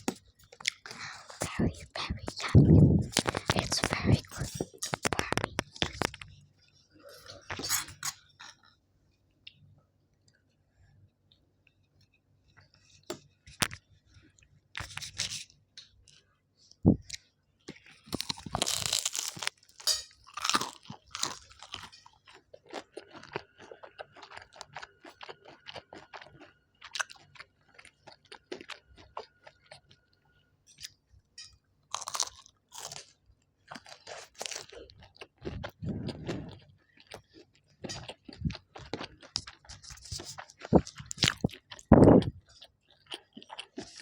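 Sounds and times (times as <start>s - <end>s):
chewing crunchy food: 0.0s - 8.8s, 10.3s - 31.1s, 31.9s - 44.0s.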